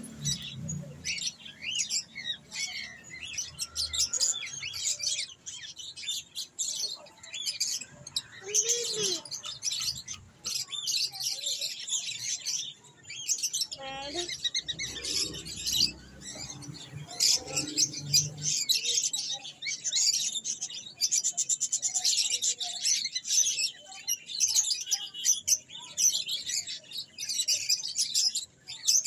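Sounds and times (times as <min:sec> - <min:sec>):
birds chirping and chattering: 0:00.0 - 0:29.0.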